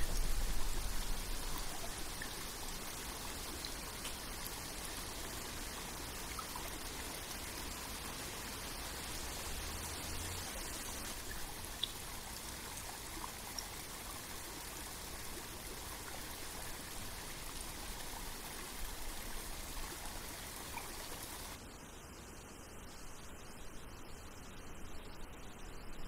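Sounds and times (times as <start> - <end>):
faint water drips: 0.0 - 21.6
stream splashing over boulders: 0.0 - 21.6.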